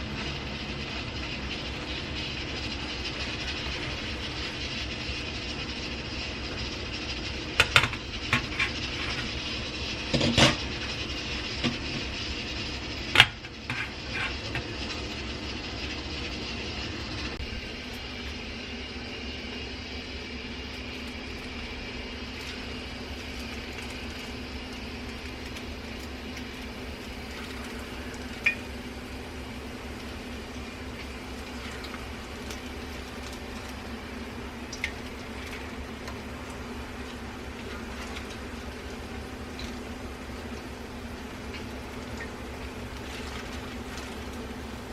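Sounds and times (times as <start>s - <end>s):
chicken deep-frying in oil: 0.0s - 44.9s
low steady hum: 0.0s - 44.9s.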